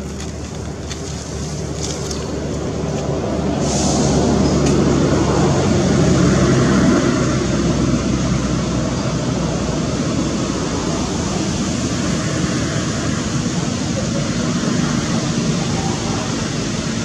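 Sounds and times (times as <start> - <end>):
traffic rush: 0.0 - 17.0
vehicle engine humming: 0.0 - 17.0.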